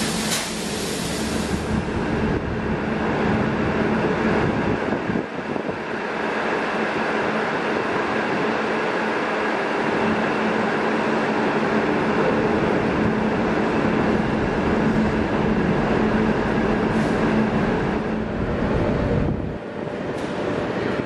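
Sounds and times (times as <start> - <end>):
electric train wheels rumbling: 0.0 - 21.0.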